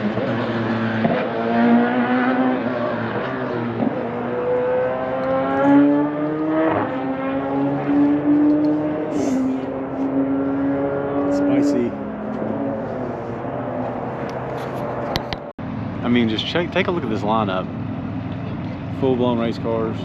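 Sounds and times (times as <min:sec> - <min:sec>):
race car engines at full throttle: 0:00.0 - 0:20.0.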